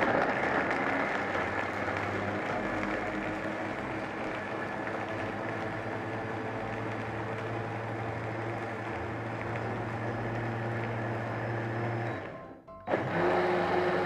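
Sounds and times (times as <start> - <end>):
blender motor running: 0.0 - 12.1, 12.9 - 14.0.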